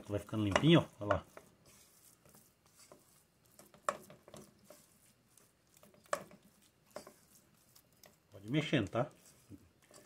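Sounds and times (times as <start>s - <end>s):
spatula scraping dough in saucepan: 0.0s - 10.0s.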